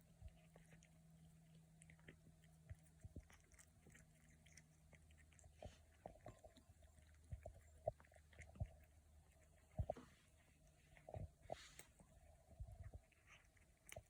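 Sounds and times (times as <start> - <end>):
kitten chewing: 0.0 - 14.0.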